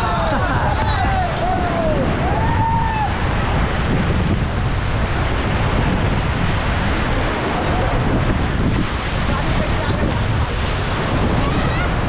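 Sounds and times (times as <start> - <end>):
whitewater rapids rushing: 0.0 - 12.0
wind buffeting microphone: 0.0 - 12.0.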